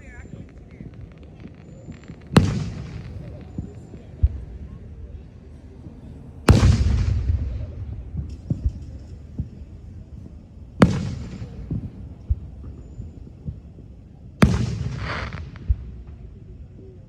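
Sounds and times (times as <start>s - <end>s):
distant firework pops: 0.0s - 5.0s, 6.4s - 16.4s
fireworks booming: 0.0s - 16.7s.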